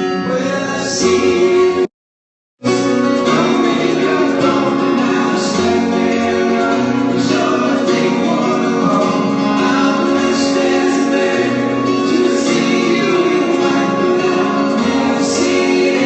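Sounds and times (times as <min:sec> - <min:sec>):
person singing: 0:00.0 - 0:01.9, 0:02.7 - 0:16.0
guitar playing: 0:02.6 - 0:16.0.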